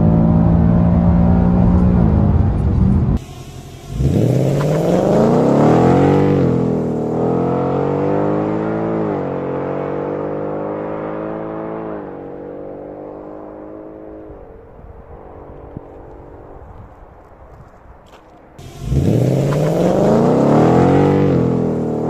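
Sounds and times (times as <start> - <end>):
car engine accelerating hard: 0.0 - 14.4, 18.6 - 22.0.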